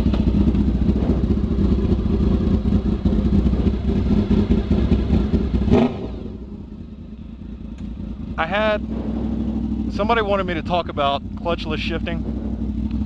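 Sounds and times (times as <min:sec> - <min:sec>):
motorcycle engine idling loud: 0:00.0 - 0:13.0.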